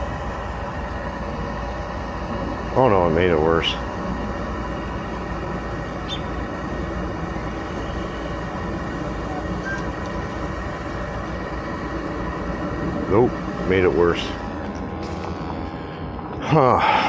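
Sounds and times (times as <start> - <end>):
faint steady tones: 0.0 - 17.0
gas furnace humming: 0.0 - 17.0.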